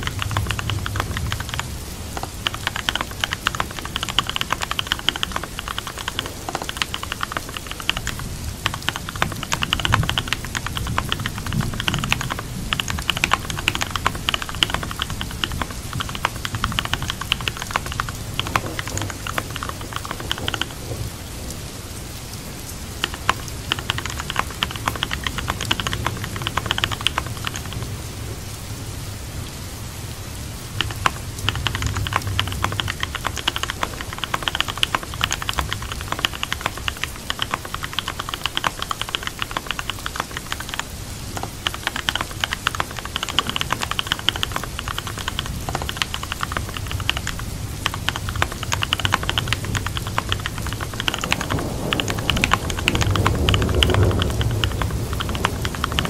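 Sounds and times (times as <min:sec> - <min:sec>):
keyboard typing: 0:00.0 - 0:21.1, 0:22.9 - 0:28.1, 0:30.7 - 0:56.0
steady rain: 0:00.0 - 0:56.0.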